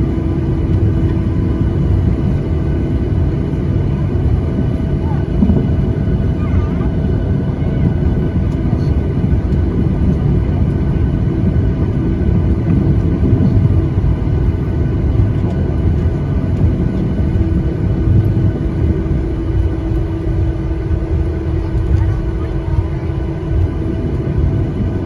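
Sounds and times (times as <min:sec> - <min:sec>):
engine and airflow rumble: 0:00.0 - 0:25.0
steady hum: 0:00.0 - 0:25.0.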